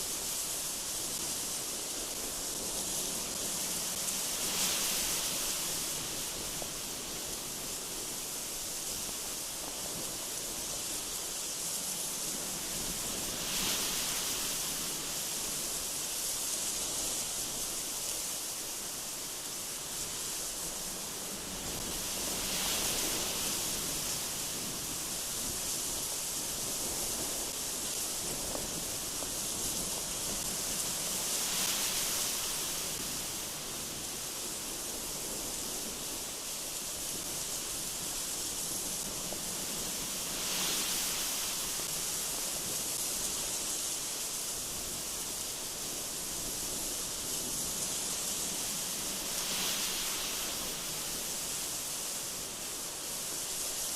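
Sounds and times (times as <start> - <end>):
gusty wind rushing through trees: 0.0 - 53.9.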